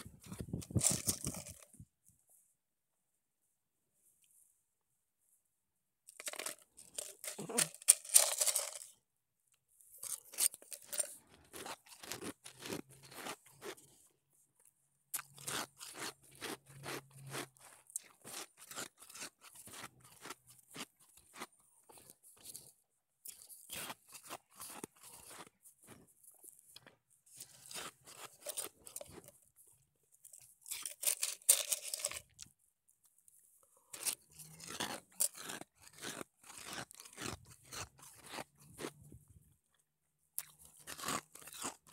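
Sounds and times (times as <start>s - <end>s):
ice being chewed: 0.0s - 1.8s, 6.1s - 9.0s, 9.9s - 39.3s, 40.4s - 41.9s.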